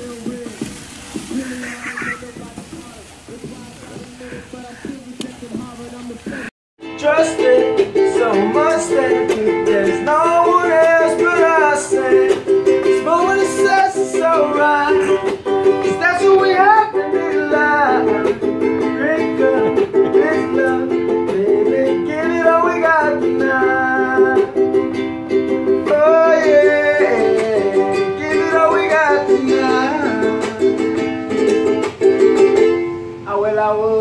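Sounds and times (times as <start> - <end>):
man singing: 0.0 - 24.8, 25.6 - 34.0
ukulele strumming: 0.0 - 33.5.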